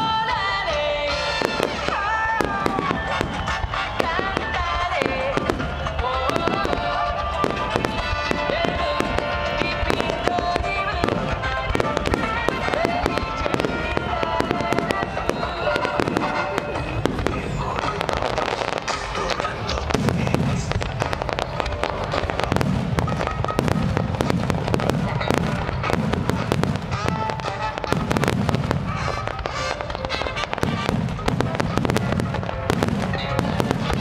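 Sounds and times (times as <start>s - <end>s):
fireworks bursting and crackling: 0.0s - 34.0s
melodic music: 0.0s - 34.0s.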